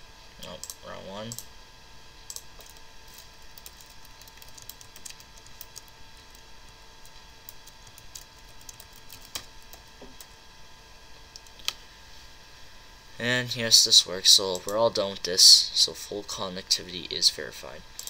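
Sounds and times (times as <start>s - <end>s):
faint computer whine: 0.0s - 18.0s.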